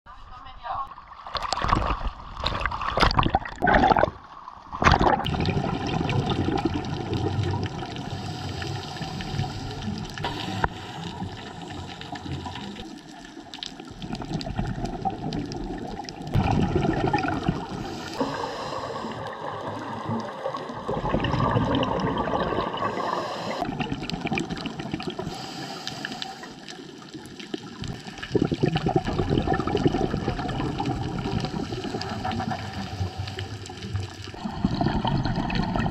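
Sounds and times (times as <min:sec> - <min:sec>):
water splashing: 0:00.8 - 0:35.9
underwater bubbling: 0:00.9 - 0:35.9.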